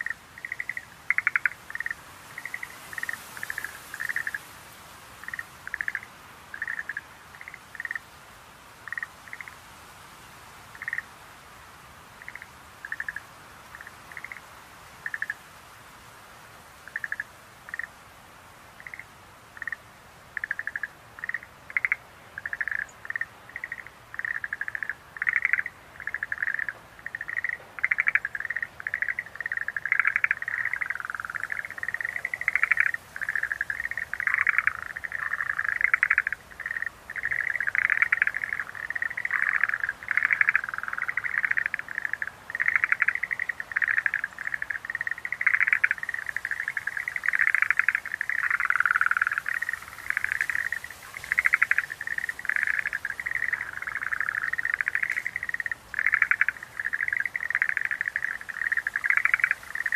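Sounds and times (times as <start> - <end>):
tree frogs croaking: 0.0 - 59.9.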